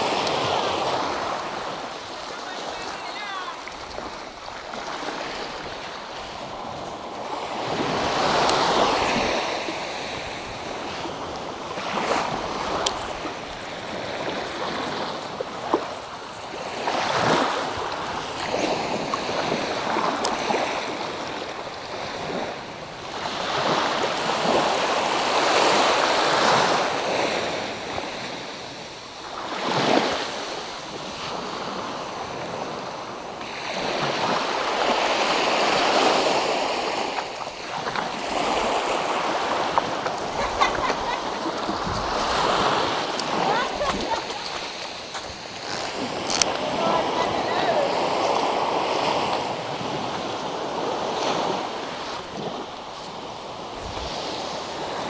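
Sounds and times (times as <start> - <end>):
small waves washing over sand: 0.0 - 55.0.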